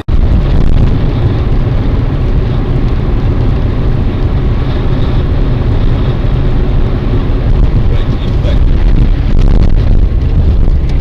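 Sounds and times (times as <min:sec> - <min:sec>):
car driving rumble and hiss: 0:00.0 - 0:11.0.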